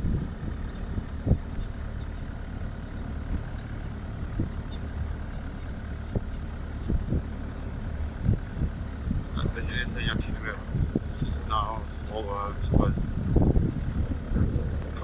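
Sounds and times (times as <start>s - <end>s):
vehicle engine running low: 0.0s - 15.0s.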